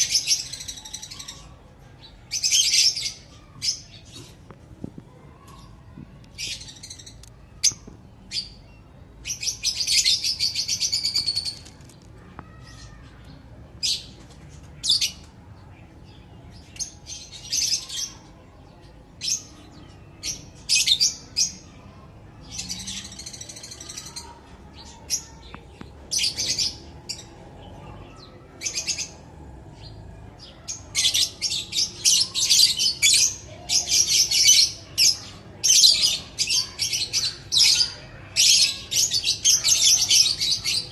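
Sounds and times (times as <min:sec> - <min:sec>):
lovebirds chirping and chattering: 0:00.0 - 0:40.9.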